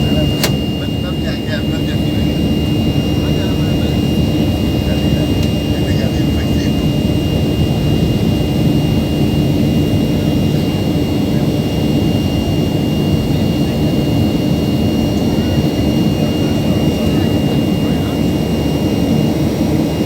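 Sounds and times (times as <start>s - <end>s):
vehicle engine drone: 0.0s - 20.0s.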